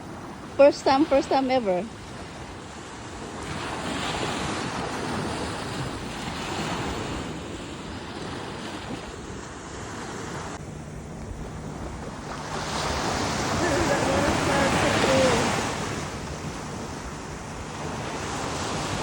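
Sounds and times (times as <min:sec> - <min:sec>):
waves washing in: 0:00.0 - 0:19.0.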